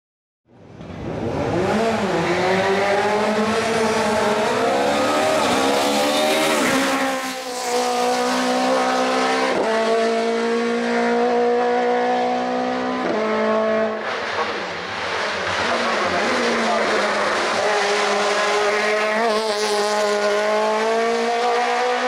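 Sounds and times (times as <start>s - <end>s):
race car engine accelerating hard: 0.7s - 22.0s.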